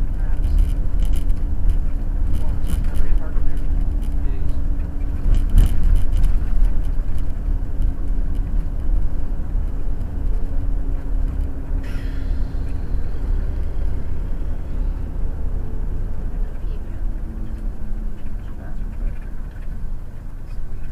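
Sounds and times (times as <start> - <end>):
motorhome engine and road noise: 0.0 - 20.9.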